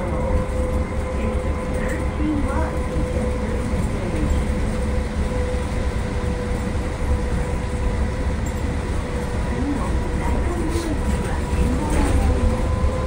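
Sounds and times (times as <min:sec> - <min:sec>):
trolleybus low rumble: 0:00.0 - 0:13.0.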